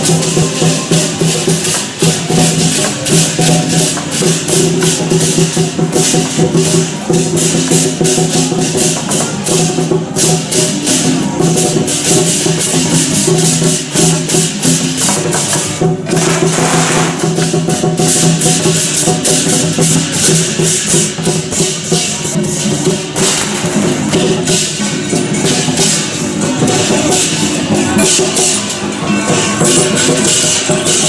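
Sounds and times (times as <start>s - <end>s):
barrel drum beating: 0.0s - 31.0s
hand cymbals clashing: 0.0s - 31.0s.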